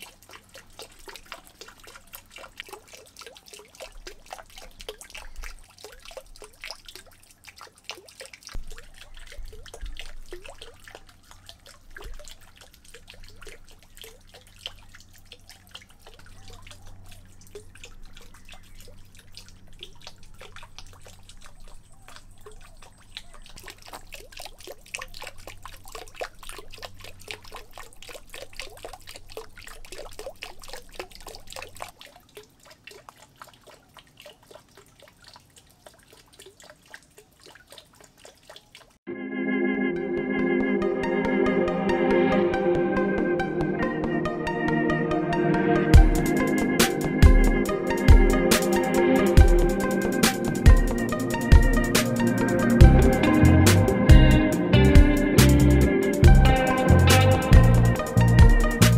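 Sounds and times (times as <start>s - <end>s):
water dripping into pond: 0.0s - 39.1s, 45.8s - 58.9s.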